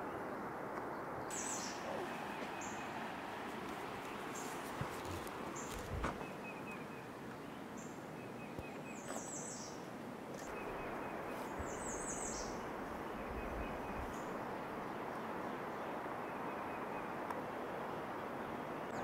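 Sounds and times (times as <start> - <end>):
songbirds calling: 0.0 - 19.0
steady outdoor hiss: 0.0 - 19.0.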